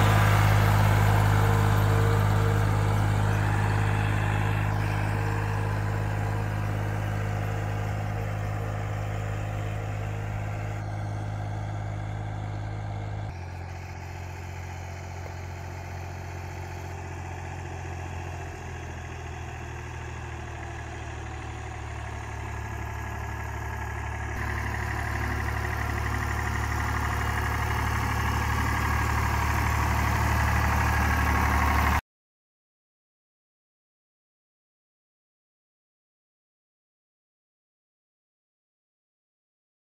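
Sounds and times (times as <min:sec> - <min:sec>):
tractor engine running under load: 0:00.0 - 0:32.0.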